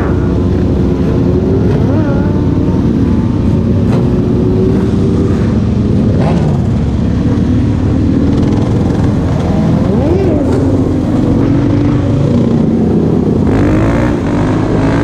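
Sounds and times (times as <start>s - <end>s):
motorcycle engine revving: 0.0s - 15.0s
motorcycle engines running: 0.0s - 15.0s.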